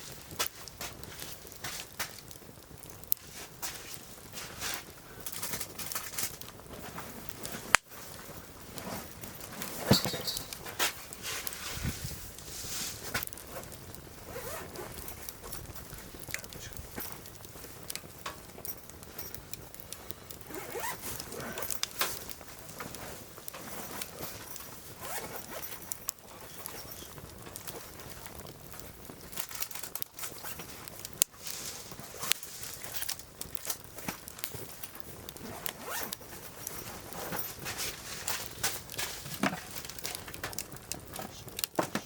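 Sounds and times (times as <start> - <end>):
firewood crackling: 0.0 - 42.0
sharp crack of fire: 0.0 - 42.0.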